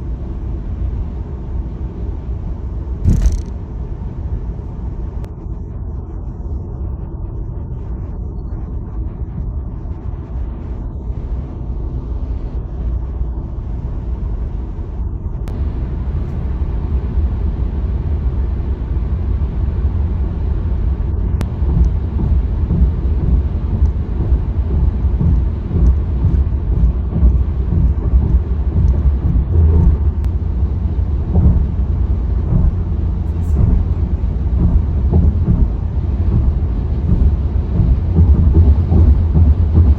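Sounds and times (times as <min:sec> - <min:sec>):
tyre road rumble: 0:00.0 - 0:07.8, 0:09.3 - 0:39.9
wind noise: 0:02.6 - 0:39.9.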